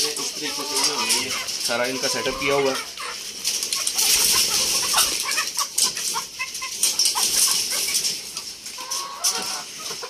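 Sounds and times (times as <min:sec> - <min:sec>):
hens clucking: 0:00.0 - 0:10.0
rustling: 0:00.0 - 0:10.0.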